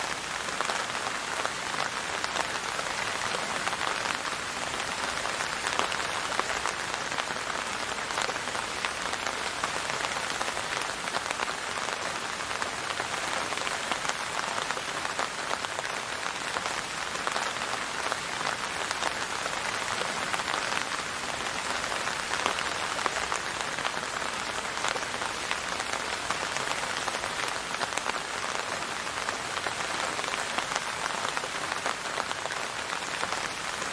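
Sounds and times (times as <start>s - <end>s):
rain pattering on a surface: 0.0s - 33.9s.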